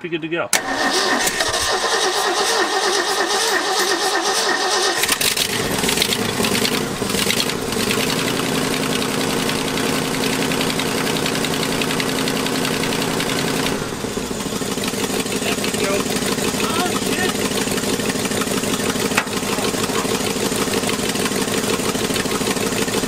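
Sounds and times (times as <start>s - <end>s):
engine cranking on starter: 0.5s - 23.0s
engine idling: 0.6s - 23.0s.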